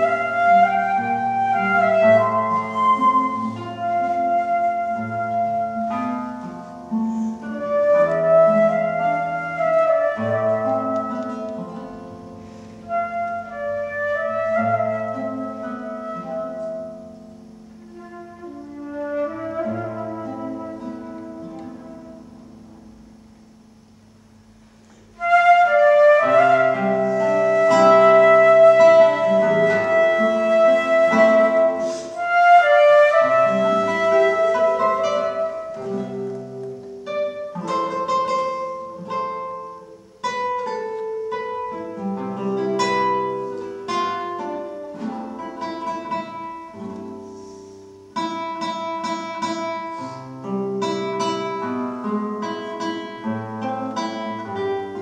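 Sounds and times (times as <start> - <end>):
flute melody: 0.0 - 22.9, 25.2 - 55.0
classical guitar plucking: 0.0 - 55.0.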